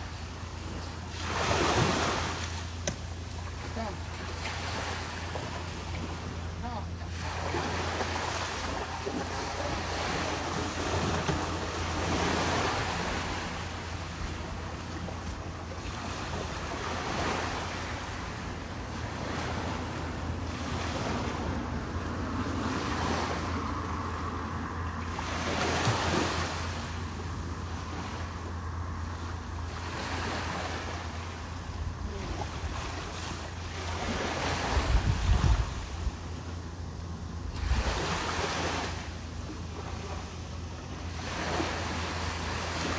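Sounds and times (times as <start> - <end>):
ocean surf washing: 0.0 - 42.9
wind rumbling on microphone: 0.0 - 42.9.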